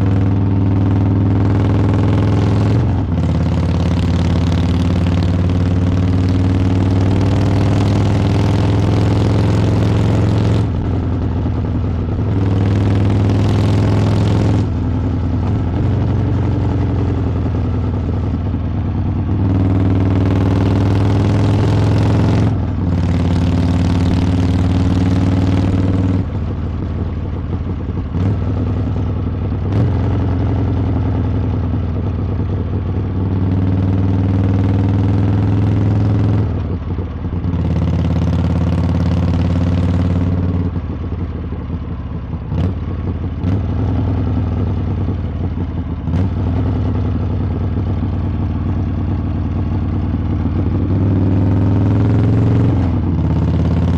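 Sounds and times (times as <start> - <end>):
motorcycle engine pulling hard: 0.0 - 53.9.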